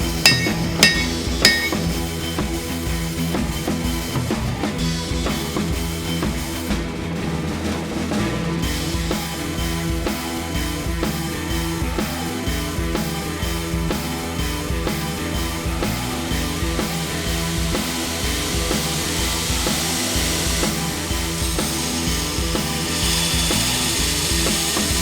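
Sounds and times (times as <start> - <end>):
rock music with drum kit: 0.0 - 25.0.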